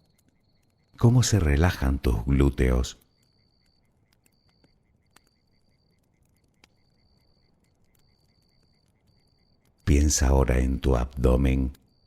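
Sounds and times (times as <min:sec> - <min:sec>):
crickets trilling: 0:00.0 - 0:12.0
fire crackling and popping: 0:00.0 - 0:12.0.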